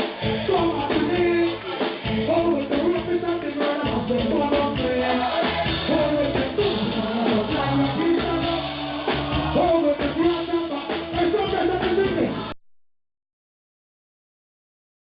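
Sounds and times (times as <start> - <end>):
live reggae band with singing: 0.0 - 12.5.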